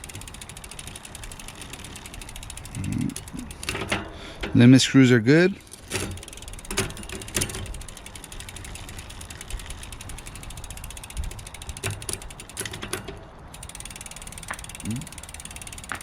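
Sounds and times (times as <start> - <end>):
bicycle drivetrain clicks: 0.0 - 16.0
bicycle hub ticking: 0.0 - 16.0.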